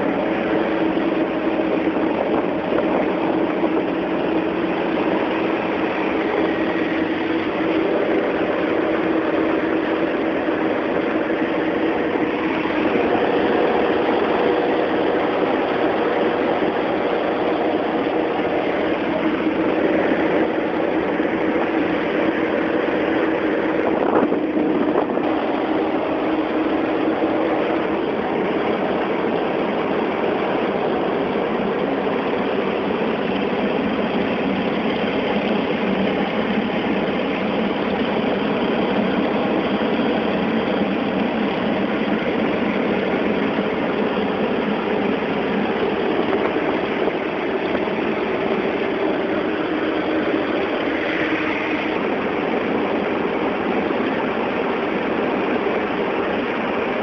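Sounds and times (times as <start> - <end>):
radial aircraft engine droning: 0.0 - 57.0.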